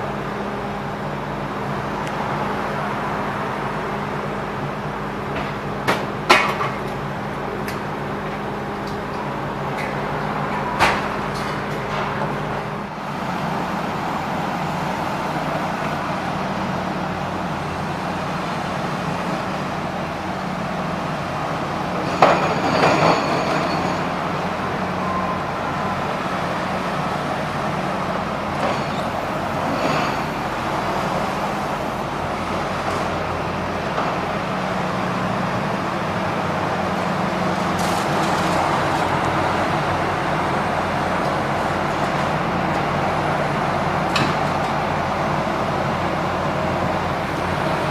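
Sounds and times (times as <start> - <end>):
heavy diesel machinery running: 0.0 - 47.9.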